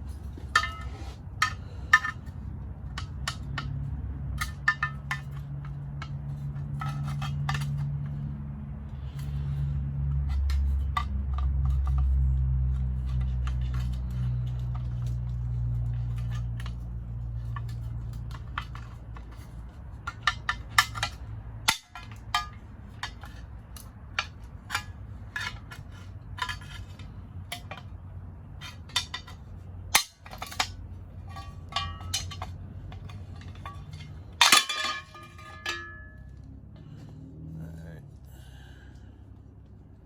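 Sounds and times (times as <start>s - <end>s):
metal tools clinking: 0.0s - 8.2s, 10.3s - 36.5s.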